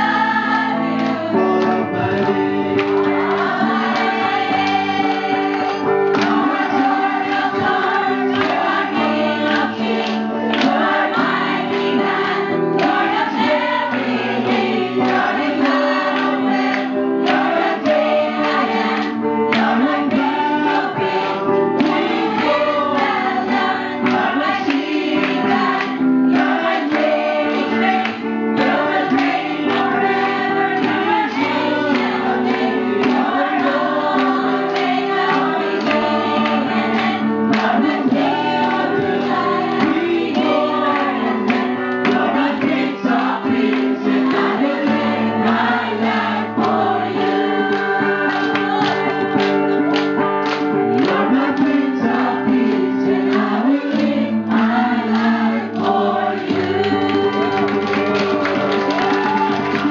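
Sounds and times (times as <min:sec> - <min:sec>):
congregation singing: 0:00.0 - 0:59.9
instrumental accompaniment: 0:00.0 - 0:59.9.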